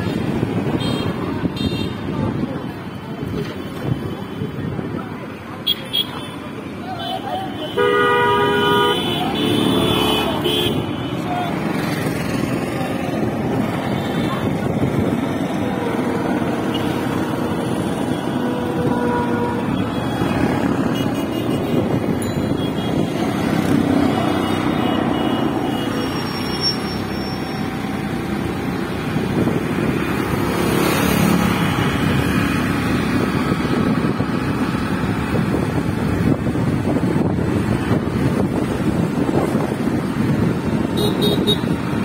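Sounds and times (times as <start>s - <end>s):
road and traffic noise: 0.0s - 42.0s.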